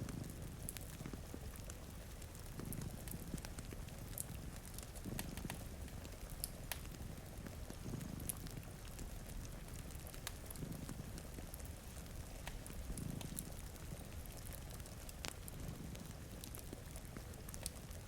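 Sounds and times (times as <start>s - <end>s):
cat purring: 0.0s - 18.0s
rain pattering: 0.0s - 18.0s
wood fire crackling: 0.0s - 18.0s.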